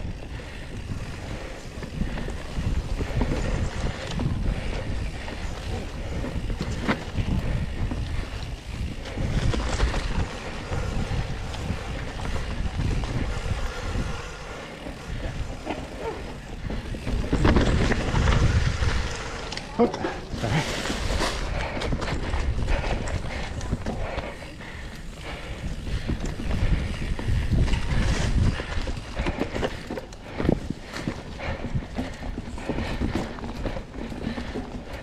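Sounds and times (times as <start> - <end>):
bike clicks and rattles: 0.0 - 35.0
bike tyres rumbling on dirt: 0.0 - 35.0
wind buffeting microphone: 0.0 - 35.0.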